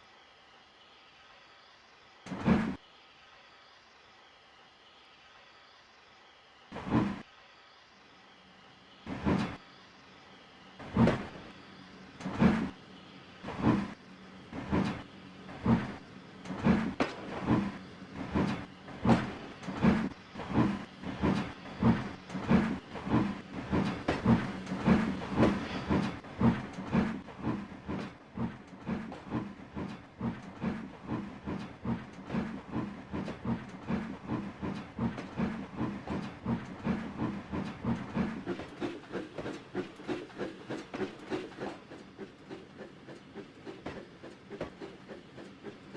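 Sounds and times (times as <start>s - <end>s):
steam locomotive exhaust beats: 8.6s - 45.9s.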